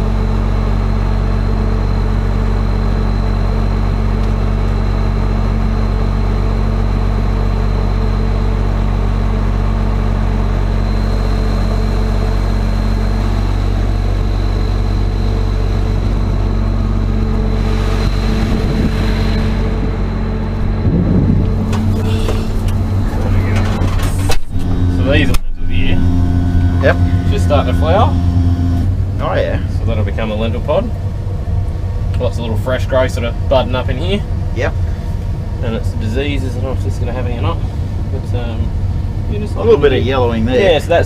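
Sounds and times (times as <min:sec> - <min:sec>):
diesel engine droning with whine: 0:00.0 - 0:41.0.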